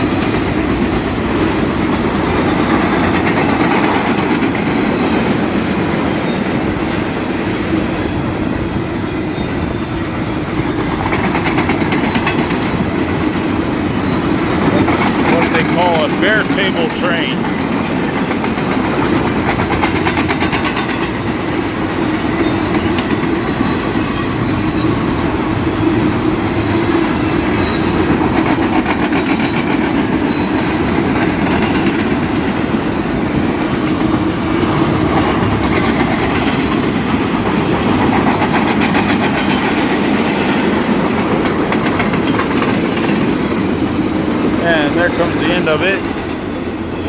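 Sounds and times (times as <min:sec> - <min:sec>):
freight train wheels on rails: 0:00.0 - 0:47.0.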